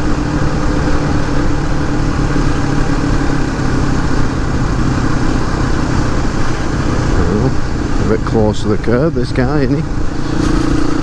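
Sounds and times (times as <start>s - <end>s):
motorcycle engine running steadily: 0.0s - 11.0s
road noise: 0.0s - 11.0s.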